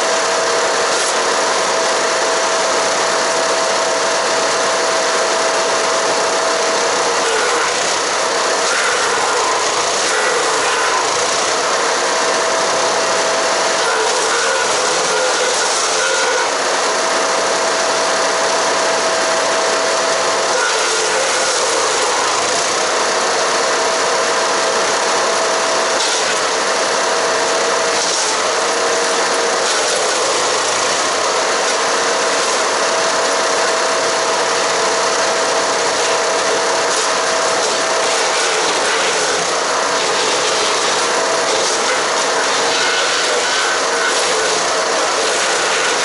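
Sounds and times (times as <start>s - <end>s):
wood chipper grinding branches: 0.0s - 46.0s.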